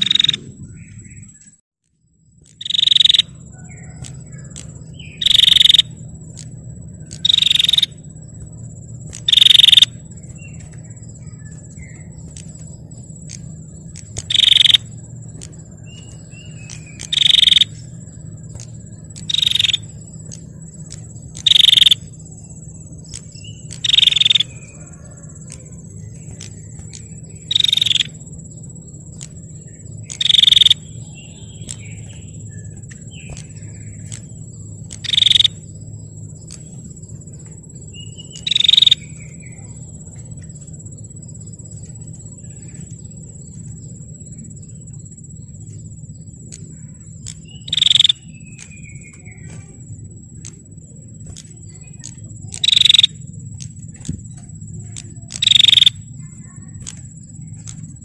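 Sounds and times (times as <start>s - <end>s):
bird trilled calls: 0.0s - 1.4s, 2.4s - 58.0s
high-pitched whine: 0.0s - 58.0s
low hum: 0.0s - 58.0s
soft bird chirps: 0.0s - 58.0s.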